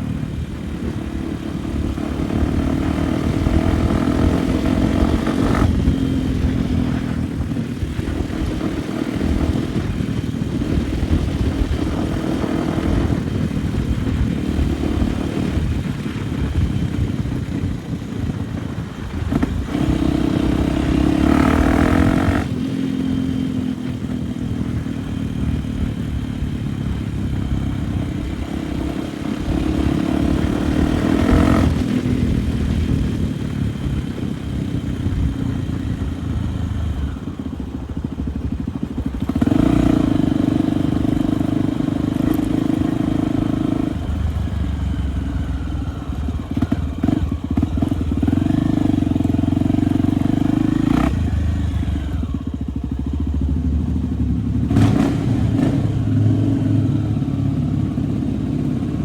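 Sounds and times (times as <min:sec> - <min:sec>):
dirt bike engine revving: 0:00.0 - 0:37.3, 0:39.2 - 0:59.0.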